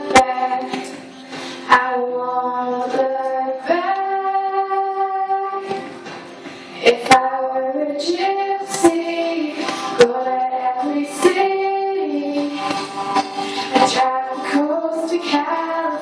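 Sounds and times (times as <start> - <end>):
girl singing into a microphone: 0.0 - 6.0, 6.8 - 16.0.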